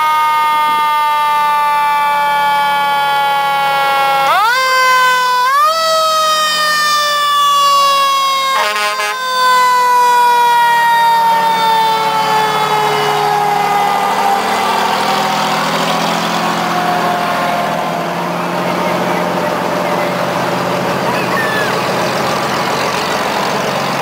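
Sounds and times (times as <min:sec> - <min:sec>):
brief siren blast: 0:00.0 - 0:22.0
mechanical siren winding down: 0:00.0 - 0:22.6
truck engine: 0:00.2 - 0:24.0.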